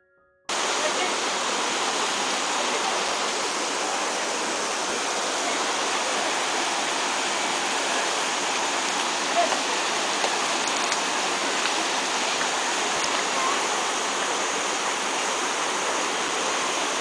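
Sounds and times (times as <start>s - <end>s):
rushing water: 0.5s - 17.0s.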